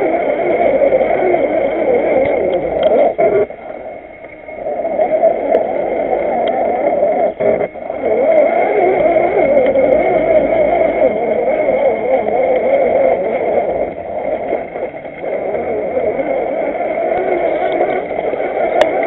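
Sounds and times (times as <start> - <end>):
steady high whine: 0.0 - 19.0.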